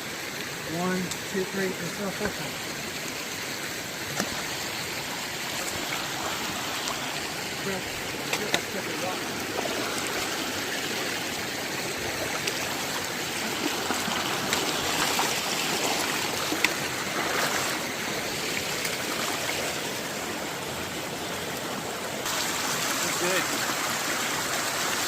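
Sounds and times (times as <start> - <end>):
stream babbling over rocks: 0.0 - 25.0.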